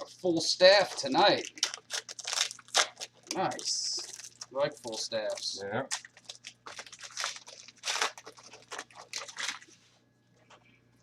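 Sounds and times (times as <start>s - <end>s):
foil wrapper crinkling and tearing: 0.6s - 9.8s.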